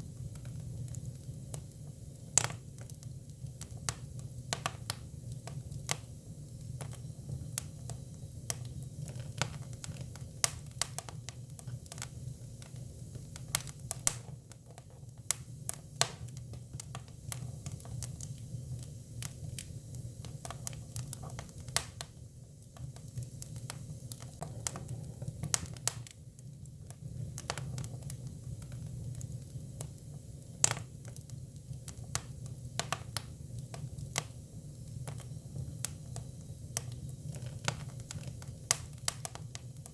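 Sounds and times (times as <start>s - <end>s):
firewood crackles and pops: 0.0s - 39.9s
low rumble of fire: 0.0s - 39.9s.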